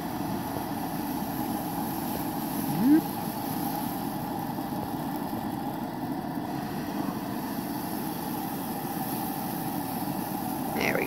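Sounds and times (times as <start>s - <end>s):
gas stove burner rushing: 0.0s - 11.0s.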